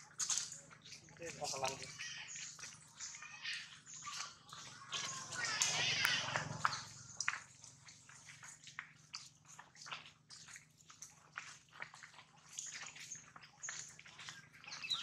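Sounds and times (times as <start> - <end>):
footsteps on dry leaves and gravel: 0.0 - 15.0.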